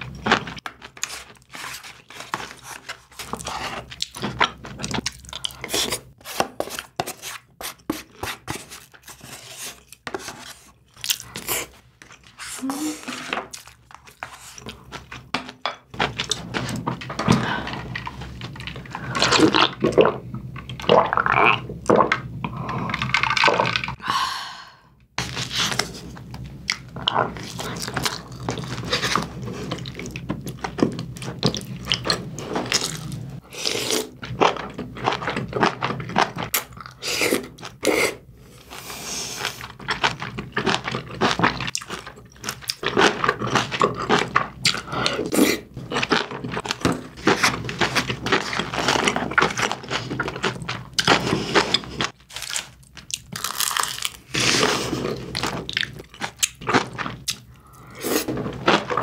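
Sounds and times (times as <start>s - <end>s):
person chewing food: 0.0s - 12.5s, 13.2s - 24.0s, 26.6s - 59.0s.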